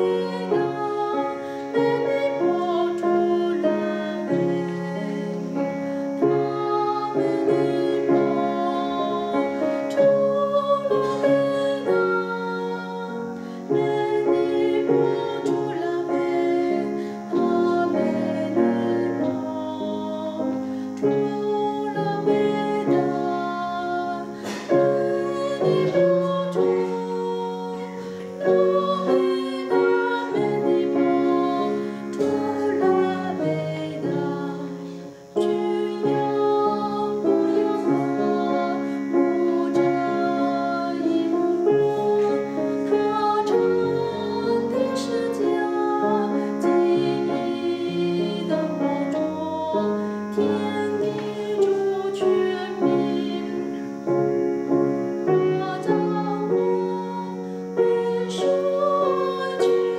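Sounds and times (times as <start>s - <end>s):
grand piano: 0.0s - 59.9s
woman singing a hymn: 0.0s - 59.9s.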